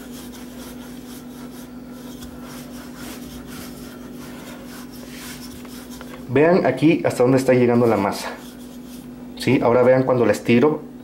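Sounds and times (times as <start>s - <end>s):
rolling pin rubbing over dough: 0.0s - 10.0s
steady low hum: 0.0s - 11.0s.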